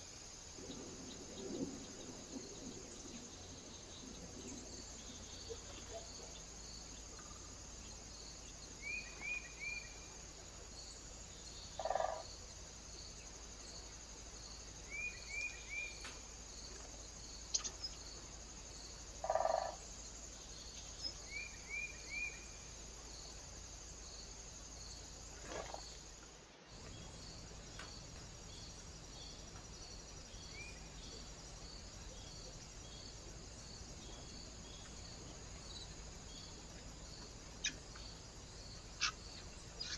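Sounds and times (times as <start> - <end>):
faint pulsing hiss: 0.0 - 39.9.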